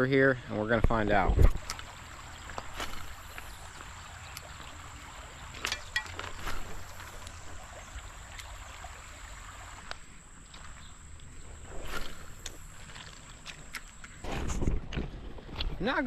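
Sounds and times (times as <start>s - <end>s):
creek water running: 0.0s - 16.0s
splashes and knocks: 1.2s - 15.8s.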